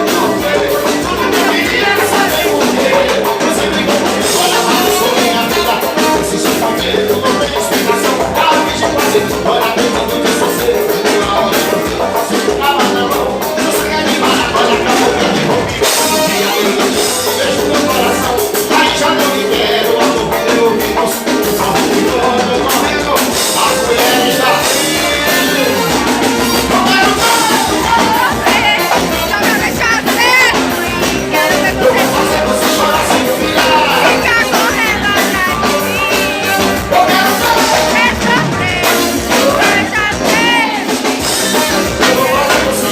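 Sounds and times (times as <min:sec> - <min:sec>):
live band music: 0:00.0 - 0:42.9
steady drum beat: 0:00.0 - 0:42.9.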